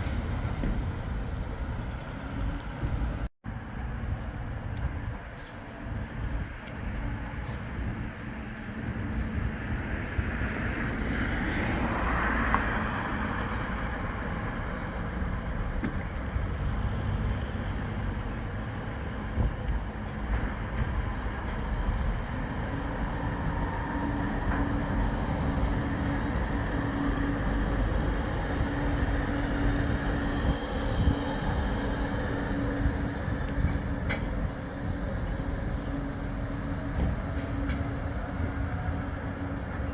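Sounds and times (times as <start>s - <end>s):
large vehicle rumbling: 0.0s - 39.9s
wind buffeting microphone: 0.0s - 39.9s.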